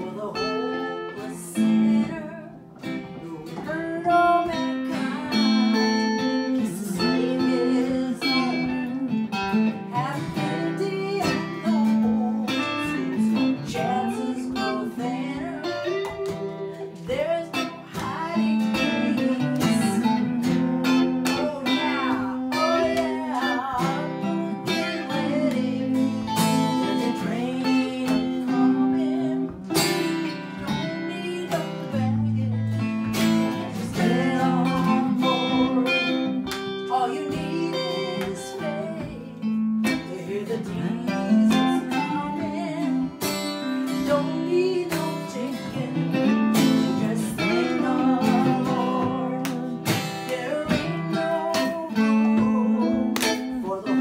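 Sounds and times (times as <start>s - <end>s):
acoustic guitar strumming chords: 0.0s - 54.0s
lead guitar with bent notes: 0.0s - 54.0s.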